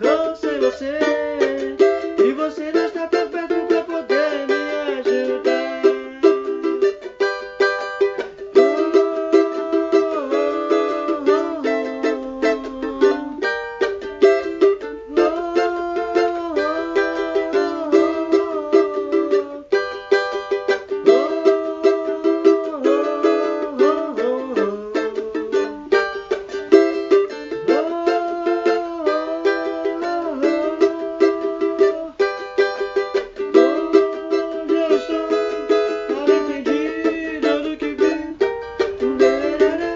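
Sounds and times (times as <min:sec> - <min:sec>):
cavaquinho picking and strumming: 0:00.0 - 0:39.9.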